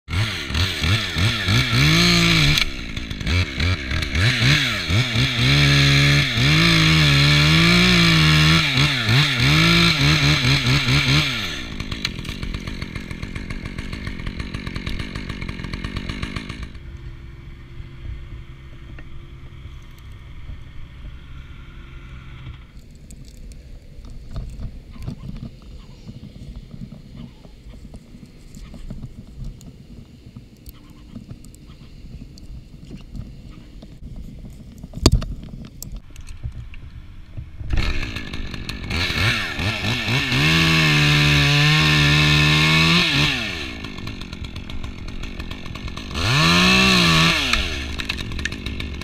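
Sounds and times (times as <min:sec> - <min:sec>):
chainsaw idling: 0:00.1 - 0:34.0, 0:37.0 - 0:49.0
chainsaw cutting wood: 0:00.1 - 0:36.4, 0:37.4 - 0:49.0.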